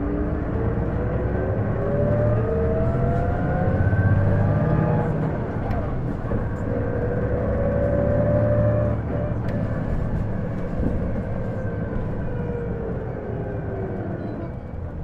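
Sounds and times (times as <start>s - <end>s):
diesel engine rumble: 0.0s - 15.0s.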